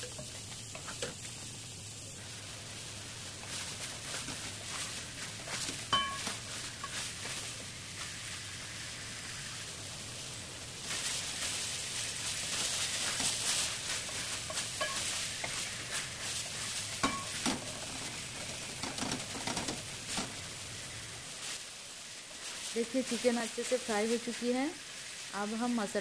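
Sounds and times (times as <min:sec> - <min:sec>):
chicken sizzling in pan: 0:00.0 - 0:26.0.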